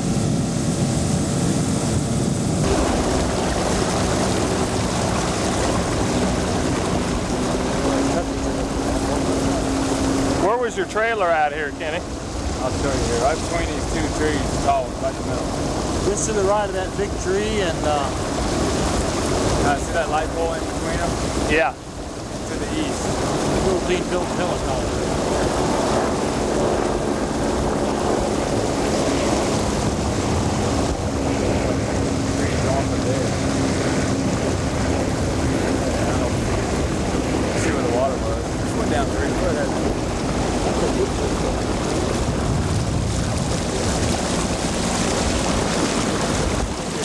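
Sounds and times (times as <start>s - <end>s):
outboard motor running: 0.0s - 47.0s
wind on microphone: 0.0s - 47.0s.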